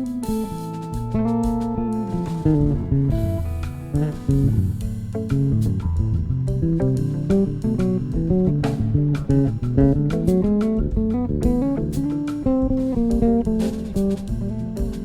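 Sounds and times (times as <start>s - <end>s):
electric bass line: 0.0s - 15.0s
guitar picking quick notes: 0.0s - 15.0s.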